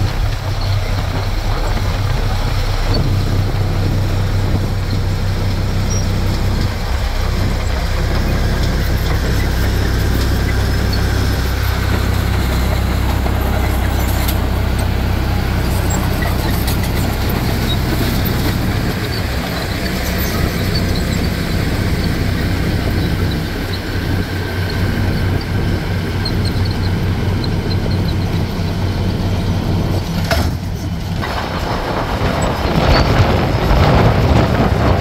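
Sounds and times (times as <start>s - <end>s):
diesel engine with mechanical rattle: 0.0s - 35.0s.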